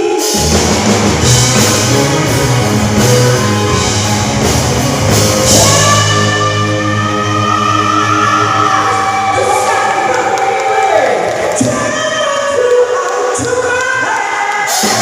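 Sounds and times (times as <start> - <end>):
rock band playing: 0.0 - 12.2.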